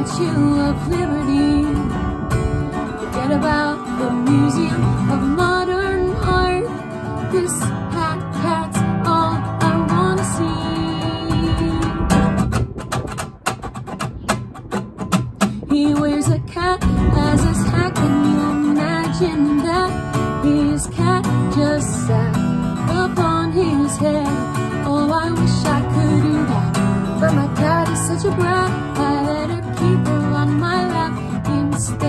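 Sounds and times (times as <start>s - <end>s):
woman singing: 0.0s - 2.2s, 2.8s - 12.1s, 15.5s - 32.0s
acoustic guitar strumming: 0.0s - 32.0s.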